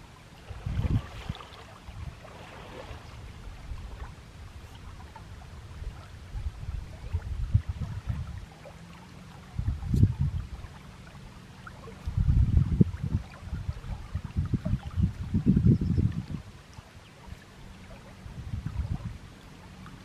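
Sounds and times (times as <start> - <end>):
shallow river water running: 0.0 - 20.0.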